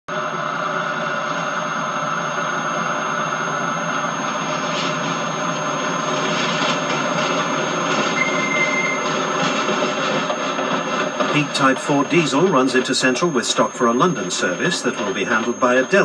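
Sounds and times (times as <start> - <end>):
diesel locomotive running: 0.1 - 16.0
thin high whine: 0.1 - 16.0.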